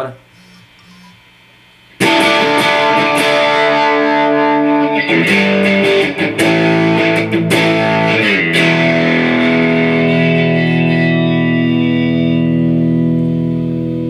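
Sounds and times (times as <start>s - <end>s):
distorted electric guitar: 1.9s - 14.0s.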